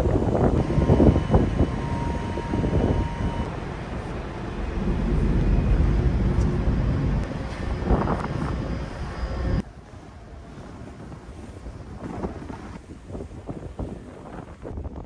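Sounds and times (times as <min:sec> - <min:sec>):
wind buffeting microphone: 0:00.0 - 0:03.5, 0:04.2 - 0:15.0.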